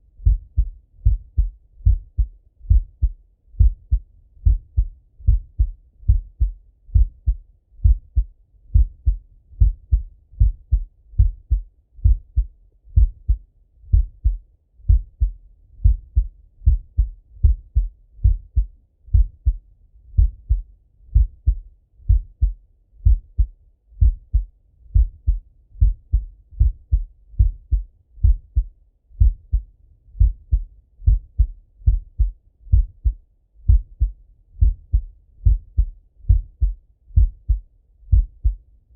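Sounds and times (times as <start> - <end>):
muffled heartbeat thumps: 0.2 - 29.6, 30.2 - 38.6.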